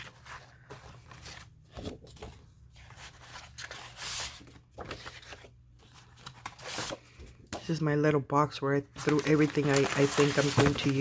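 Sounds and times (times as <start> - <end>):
paper and card rustling: 0.0 - 7.9, 8.9 - 11.0.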